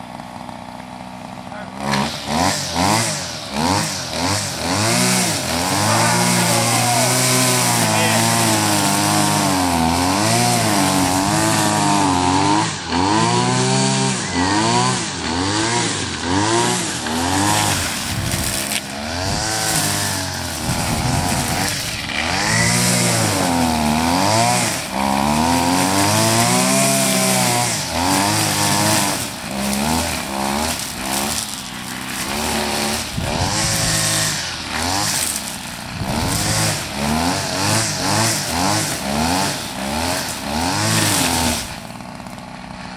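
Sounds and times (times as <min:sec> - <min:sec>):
small petrol engine revving: 0:00.0 - 0:42.9.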